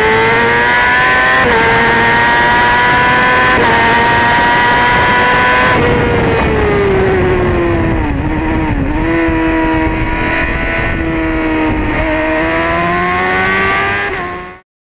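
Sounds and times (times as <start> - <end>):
wind rush: 0.0 - 14.5
motorcycle engine at high revs: 0.0 - 14.6.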